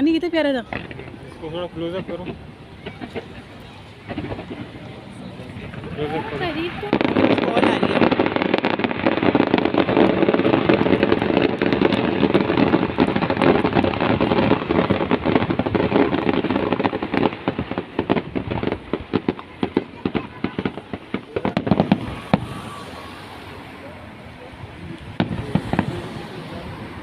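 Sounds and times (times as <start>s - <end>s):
fireworks bangs and pops: 0.0s - 27.0s.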